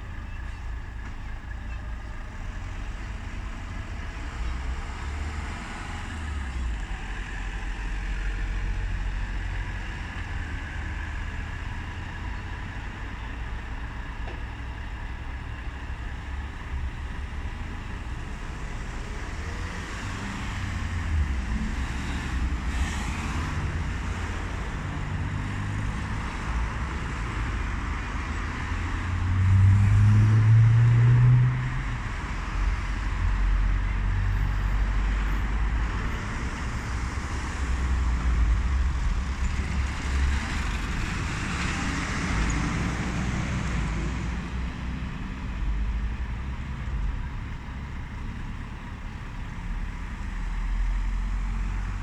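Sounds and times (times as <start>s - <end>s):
heavy truck engine: 0.0s - 52.0s
road traffic rumbling: 0.0s - 52.0s.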